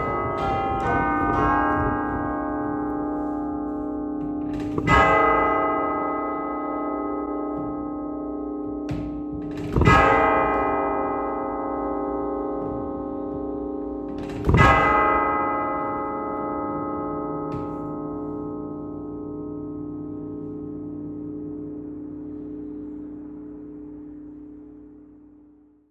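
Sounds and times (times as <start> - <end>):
church tubular bells ringing: 0.0 - 25.7.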